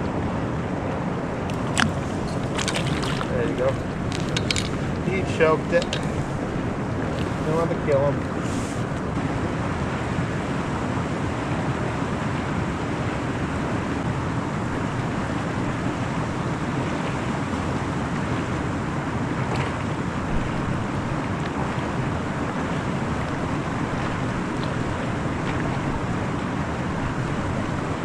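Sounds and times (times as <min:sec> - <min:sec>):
rushing water: 0:00.0 - 0:28.0
rushing wind: 0:00.0 - 0:28.0
wind buffeting microphone: 0:00.0 - 0:28.0.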